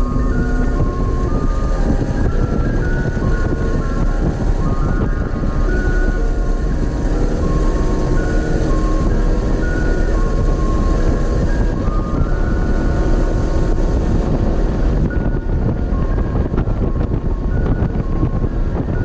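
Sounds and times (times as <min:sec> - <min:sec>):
road and wind rumble: 0:00.0 - 0:19.0.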